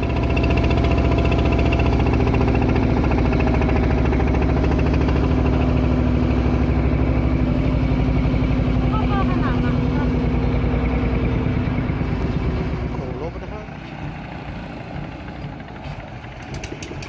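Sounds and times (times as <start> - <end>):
diesel boat engine chugging: 0.0 - 17.0.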